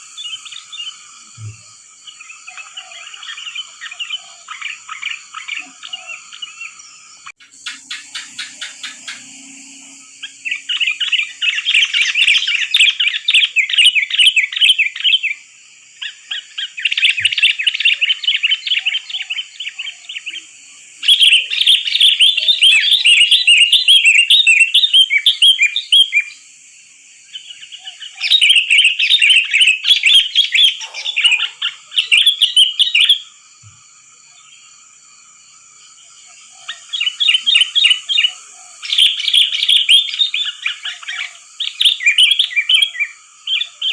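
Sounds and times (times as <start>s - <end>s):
steady high-pitched hiss: 0.0s - 43.9s.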